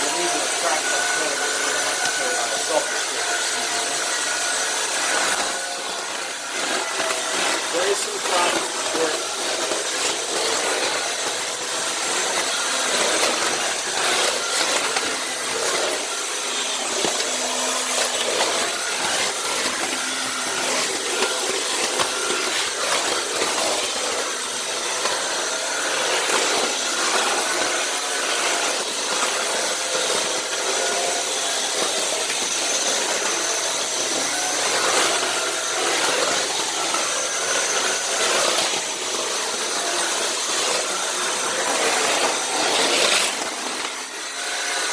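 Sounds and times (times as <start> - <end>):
vacuum cleaner motor whine: 0.0 - 44.9
vacuum head scraping floor: 0.0 - 44.9.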